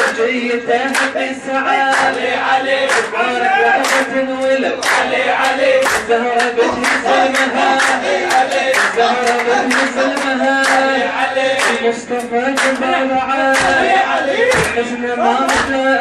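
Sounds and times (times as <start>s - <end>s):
men's chorus singing: 0.0s - 16.0s
rhythmic group hand clapping: 0.0s - 16.0s.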